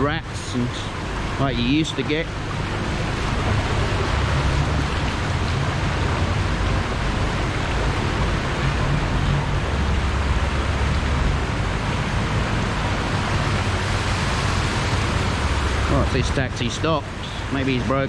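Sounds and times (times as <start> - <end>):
flood water rushing: 0.0 - 18.0
vehicle engines humming: 0.0 - 18.0.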